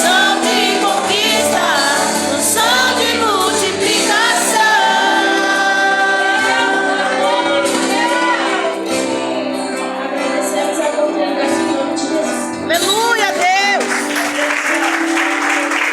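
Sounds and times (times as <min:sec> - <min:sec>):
person singing: 0:00.0 - 0:13.1
band accompaniment: 0:00.0 - 0:15.9.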